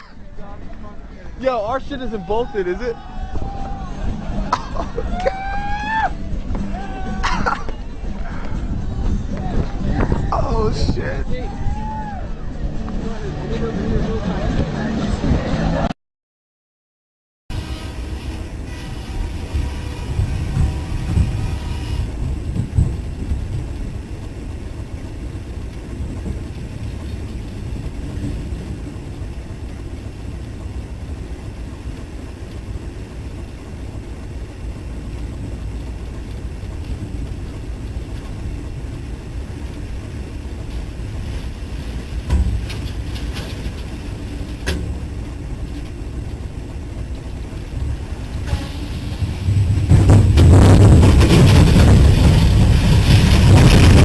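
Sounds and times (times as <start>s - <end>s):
wind rumbling on microphone: 0.0s - 15.9s, 17.5s - 54.0s.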